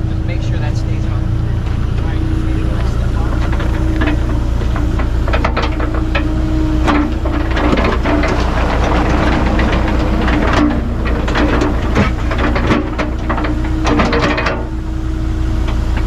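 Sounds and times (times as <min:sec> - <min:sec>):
diesel engine running: 0:00.0 - 0:16.0
metallic clanks and knocks: 0:01.6 - 0:15.0.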